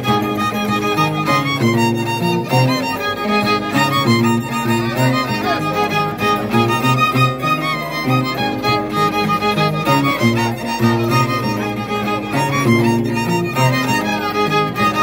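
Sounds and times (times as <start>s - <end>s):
violin playing lively melody: 0.0s - 15.0s.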